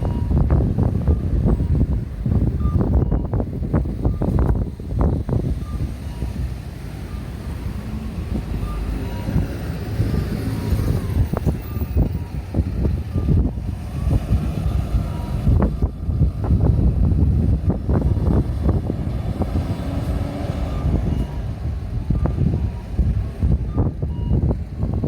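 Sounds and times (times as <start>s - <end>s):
road traffic passing: 0.0s - 25.0s
wind buffeting microphone: 0.0s - 25.0s.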